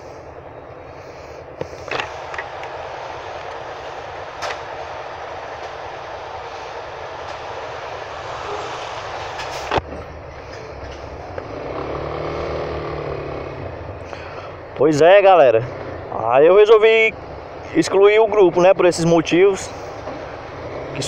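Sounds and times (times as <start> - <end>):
motorcycle engine idling and revving: 0.0 - 21.0
traffic noise: 0.0 - 21.0.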